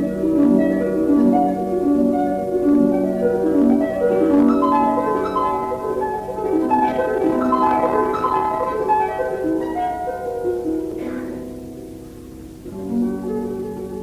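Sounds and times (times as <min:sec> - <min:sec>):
instrumental music: 0:00.0 - 0:14.0.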